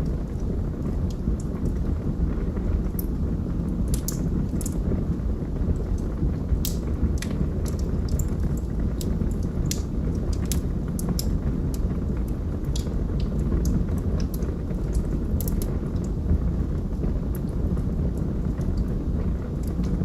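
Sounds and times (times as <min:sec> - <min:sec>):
log fire crackling and popping: 0:00.0 - 0:20.0
low fire rumble: 0:00.0 - 0:20.0.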